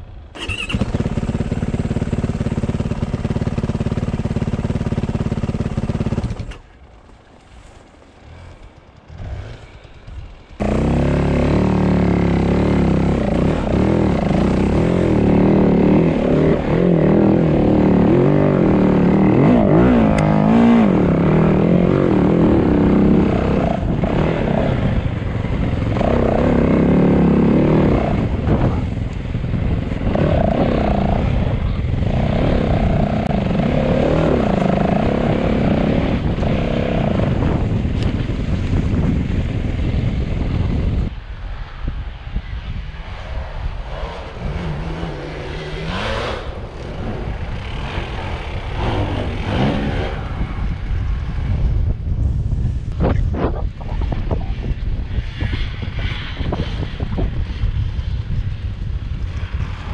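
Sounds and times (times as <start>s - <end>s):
motorcycle engine revving: 0.0s - 6.7s, 8.1s - 41.1s, 43.7s - 54.8s.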